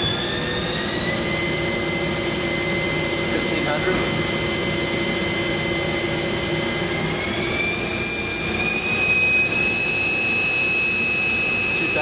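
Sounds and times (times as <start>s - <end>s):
lathe spindle whine: 0.0s - 12.0s.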